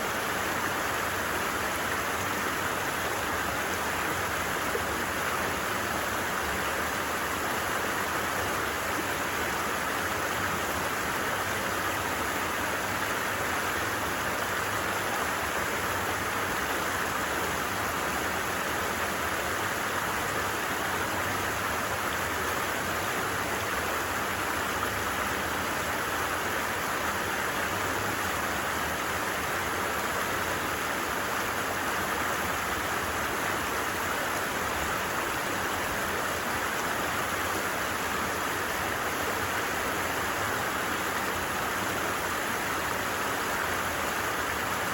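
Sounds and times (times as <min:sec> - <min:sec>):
stream water running: 0:00.0 - 0:44.9.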